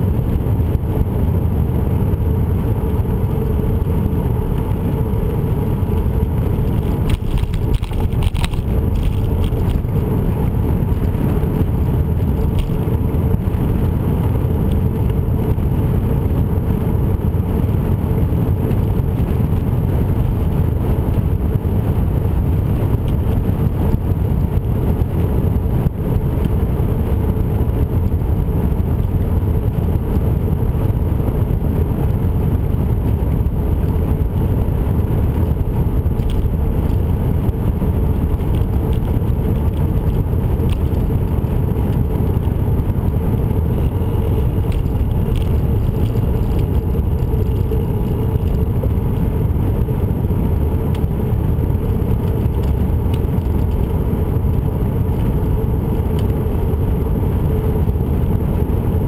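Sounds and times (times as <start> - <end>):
faint steady hum: 0.0 - 59.0
wheels rolling on pavement: 0.0 - 59.0
wind rumble: 0.0 - 59.0.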